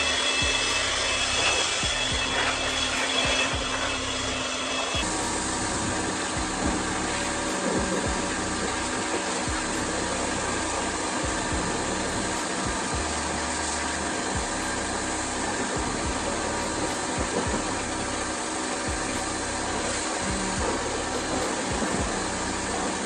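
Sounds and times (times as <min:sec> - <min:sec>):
vacuum cleaner rushing air: 0:00.0 - 0:23.0.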